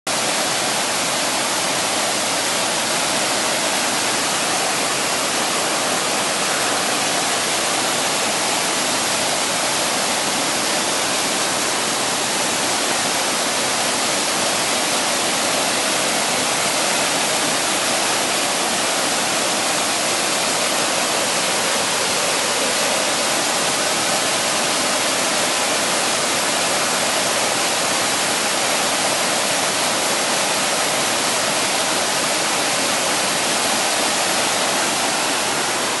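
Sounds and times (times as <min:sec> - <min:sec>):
stream rushing over rocks: 0:00.1 - 0:36.0.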